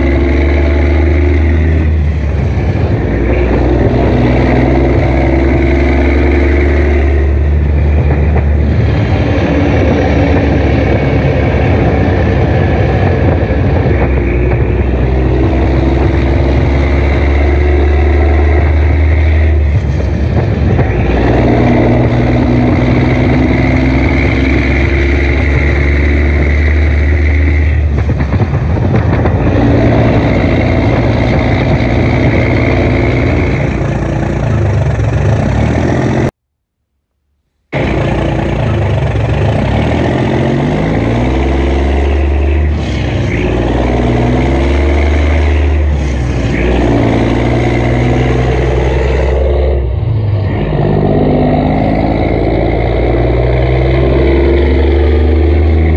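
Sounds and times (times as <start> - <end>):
truck engine revving: 0.0 - 36.4, 37.7 - 55.9.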